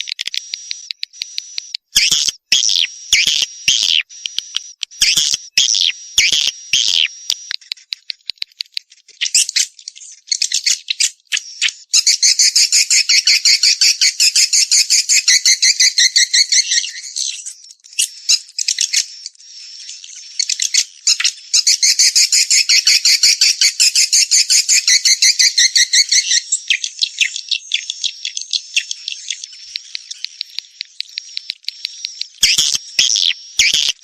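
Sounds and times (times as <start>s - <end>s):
swiftlet twittering chirps: 0.0s - 34.0s.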